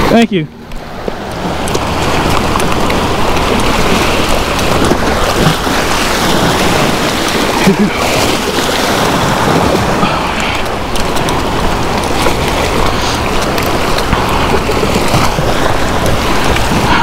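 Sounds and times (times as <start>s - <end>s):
ocean surf washing over rocks: 0.0s - 17.0s
wind buffeting microphone: 0.0s - 17.0s.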